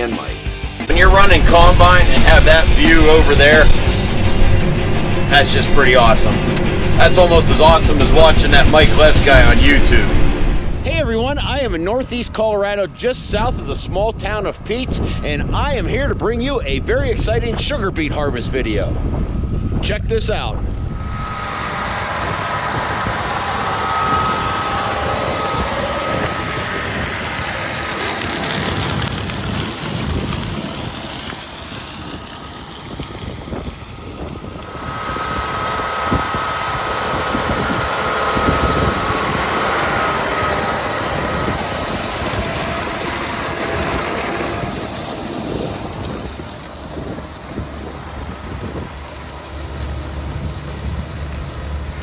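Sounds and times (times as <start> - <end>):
thin high whine: 0.0 - 15.4, 20.7 - 52.0
tractor and harvesting machinery running: 0.0 - 52.0.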